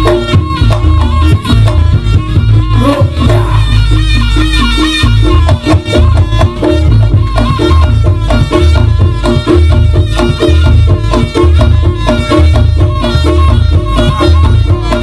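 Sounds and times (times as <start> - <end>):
gamelan-style percussion music: 0.0 - 15.0.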